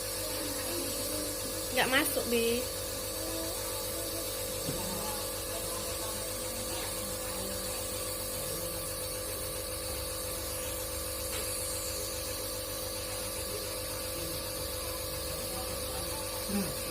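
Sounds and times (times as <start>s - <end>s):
nebulizer motor hum: 0.0s - 16.9s.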